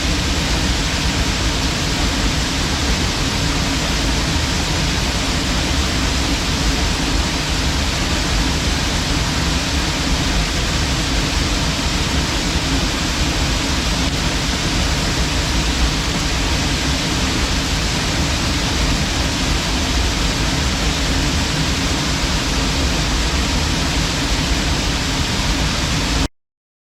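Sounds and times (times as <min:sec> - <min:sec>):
waterfall rushing: 0:00.0 - 0:26.3.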